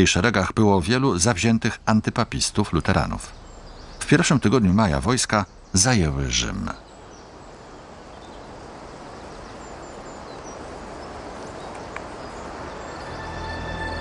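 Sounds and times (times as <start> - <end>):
steady hiss of noise: 0.0 - 14.0.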